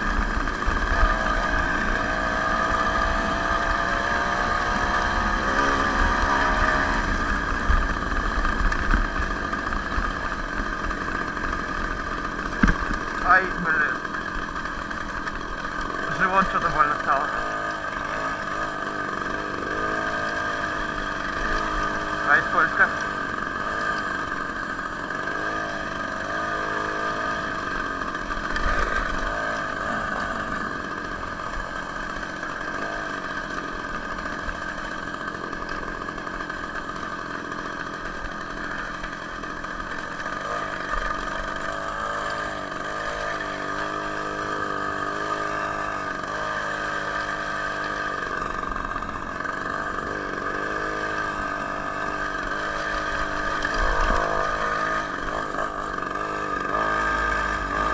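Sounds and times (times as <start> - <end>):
two-stroke moped engine revving: 0.0 - 57.9.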